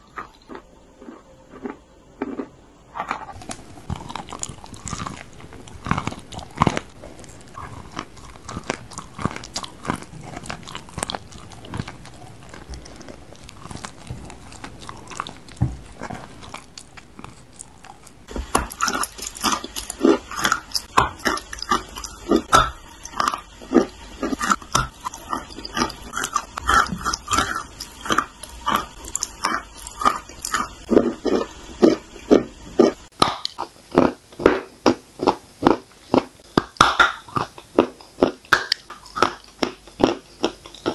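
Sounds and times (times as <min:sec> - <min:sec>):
chewing chalk crunches: 0:00.0 - 0:40.9.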